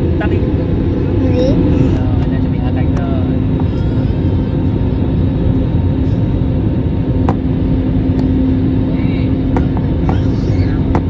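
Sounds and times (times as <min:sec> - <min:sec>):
engine and airflow rumble in cabin: 0:00.0 - 0:11.0
steady hum: 0:00.0 - 0:11.0.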